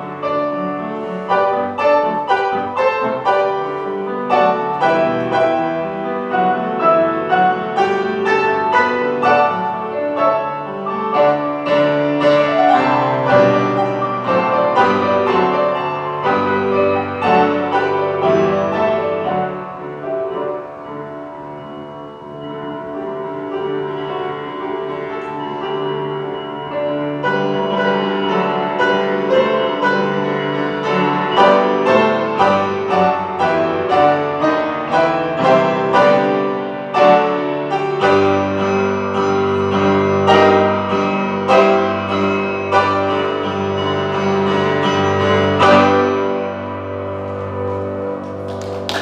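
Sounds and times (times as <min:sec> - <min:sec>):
grand piano chords: 0:00.0 - 0:49.0.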